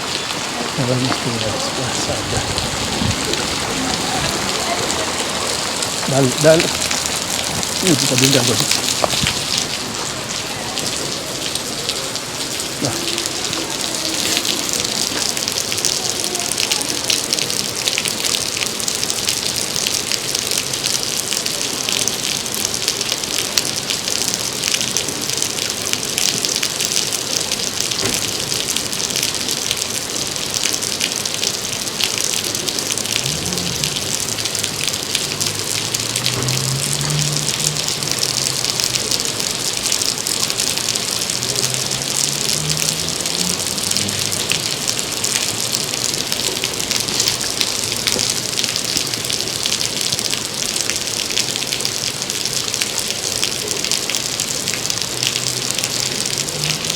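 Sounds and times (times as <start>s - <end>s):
heavy rain pattering: 0.0s - 56.9s.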